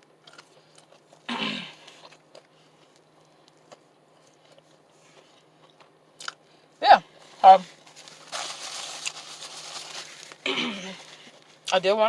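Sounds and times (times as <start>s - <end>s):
person chewing: 0.0s - 6.6s, 7.2s - 11.7s.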